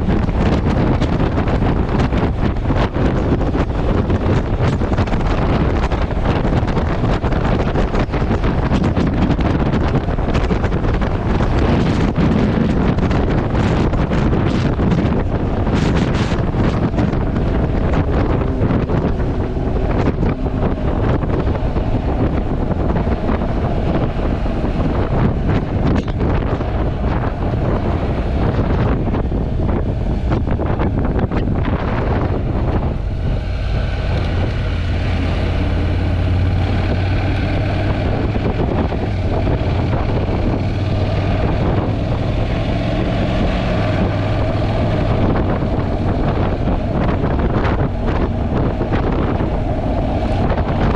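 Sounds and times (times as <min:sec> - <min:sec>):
motorcycle engine hum: 0:00.0 - 0:50.9
wind buffeting microphone: 0:00.0 - 0:50.9.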